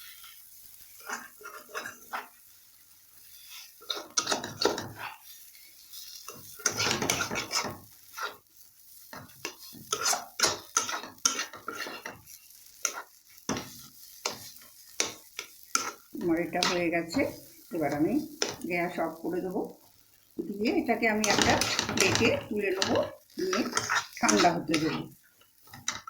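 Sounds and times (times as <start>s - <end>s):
spoon scraping a pan: 0.0s - 19.3s, 21.1s - 26.0s
light oil sizzle: 0.0s - 26.0s.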